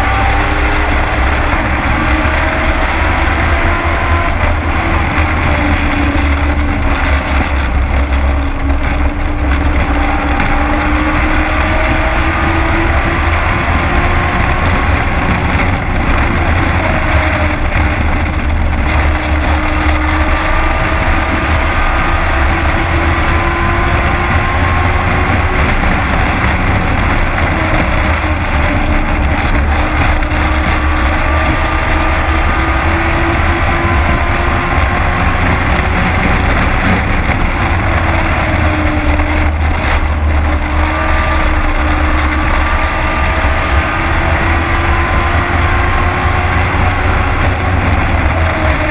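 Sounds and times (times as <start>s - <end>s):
race truck engine rumbling: 0.0s - 48.9s.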